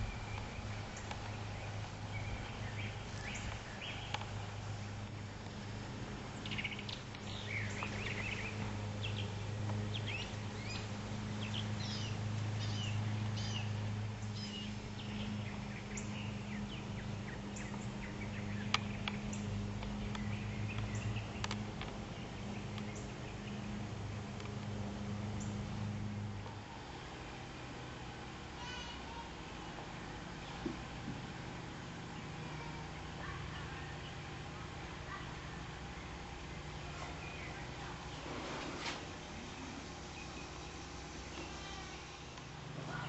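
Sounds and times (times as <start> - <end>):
small birds chirping: 0.0 - 26.3, 28.4 - 43.0
steady low hum: 0.0 - 43.0.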